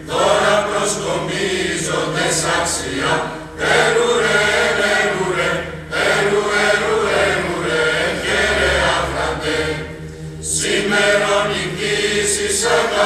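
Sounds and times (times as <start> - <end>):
choir singing a chant-style hymn: 0.0 - 13.0.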